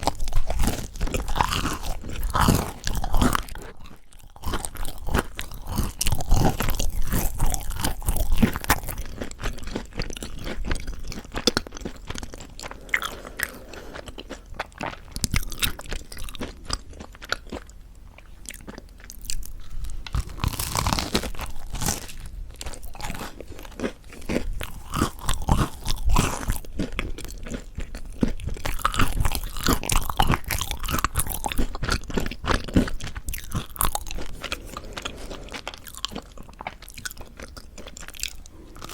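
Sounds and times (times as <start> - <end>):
crunching crispy bread: 0.0 - 17.7, 18.5 - 38.9
chewing: 0.0 - 38.9.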